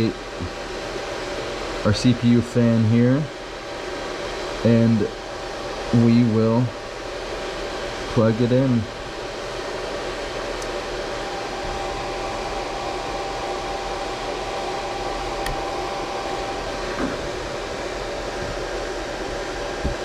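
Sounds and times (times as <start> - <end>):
whirring fan: 0.0 - 20.0.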